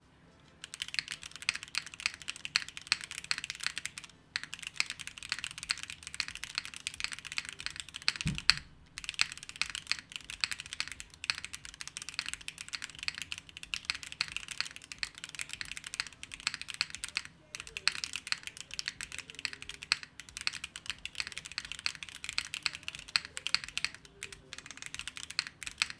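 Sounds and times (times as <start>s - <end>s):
mechanical keyboard typing: 0.6s - 25.9s.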